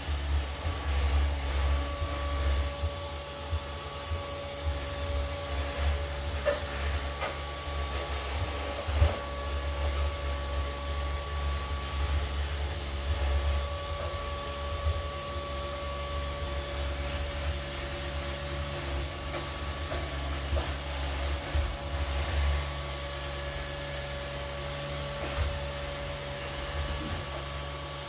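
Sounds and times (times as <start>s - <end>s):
robot vacuum running: 0.0s - 28.0s.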